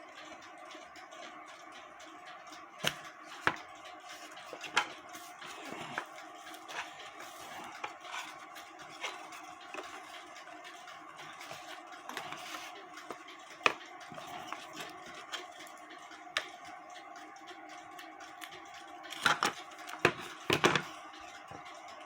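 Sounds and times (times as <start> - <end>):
light clicks and taps: 2.5 - 22.0.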